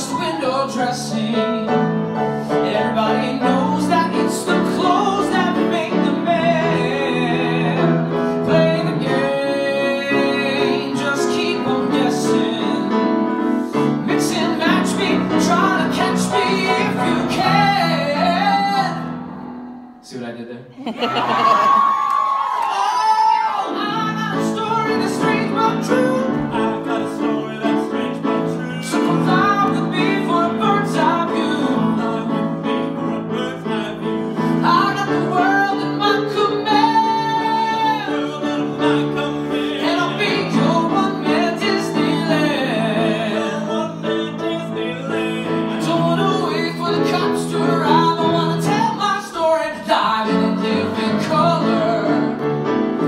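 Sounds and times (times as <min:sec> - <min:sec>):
man singing: 0:00.0 - 0:19.1, 0:22.8 - 0:53.0.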